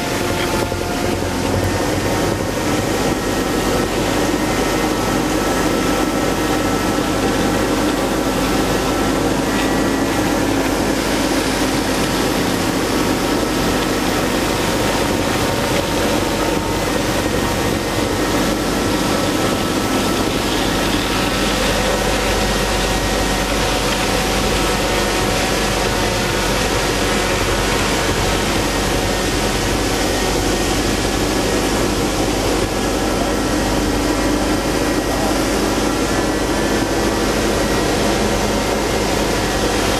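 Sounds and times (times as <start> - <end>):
ice edger mechanical drone: 0.0 - 39.9.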